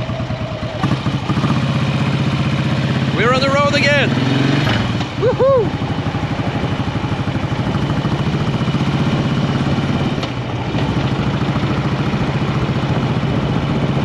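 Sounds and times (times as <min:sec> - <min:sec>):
motorcycle engine riding along: 0:00.0 - 0:14.0.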